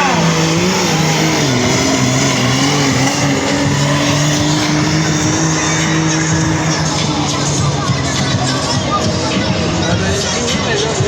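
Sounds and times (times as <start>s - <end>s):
vehicle engine running hard: 0.0s - 11.0s.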